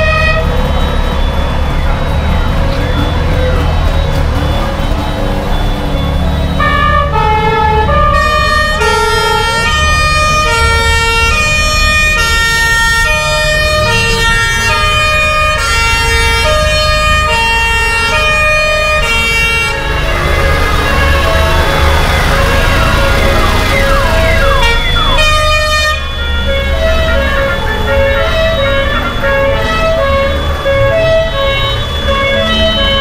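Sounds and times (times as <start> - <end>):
low rumble of vehicle engines: 0.0 - 33.0
two-tone emergency sirens: 0.0 - 33.0.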